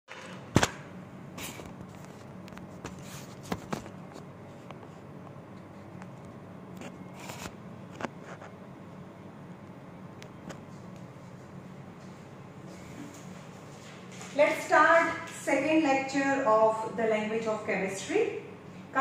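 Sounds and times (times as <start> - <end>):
low room hum: 0.1 - 19.0.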